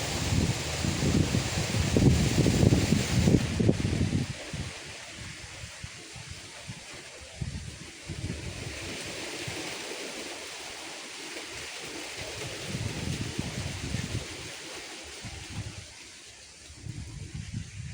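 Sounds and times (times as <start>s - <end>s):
wind buffeting microphone: 0.0s - 9.9s, 12.2s - 17.9s
leaves rustling in wind: 0.0s - 17.9s.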